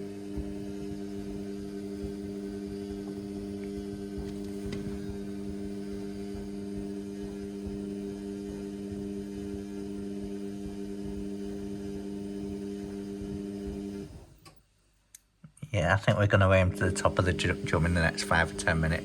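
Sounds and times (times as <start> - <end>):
washing machine electrical hum: 0.0 - 19.0.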